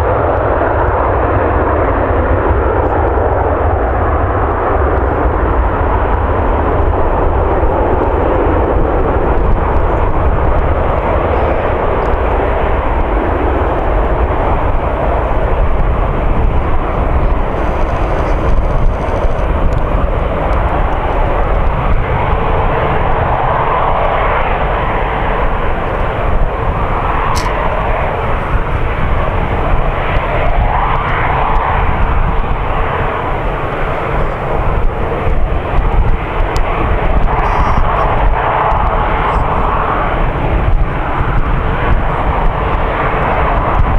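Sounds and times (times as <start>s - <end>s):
jet engines roaring: 0.0s - 43.9s
steady whining tone: 1.6s - 43.9s.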